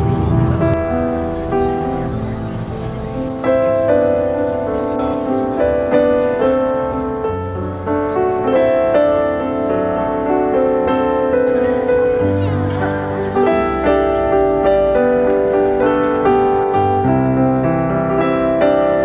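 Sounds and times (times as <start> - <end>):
piano melody: 0.0 - 19.0.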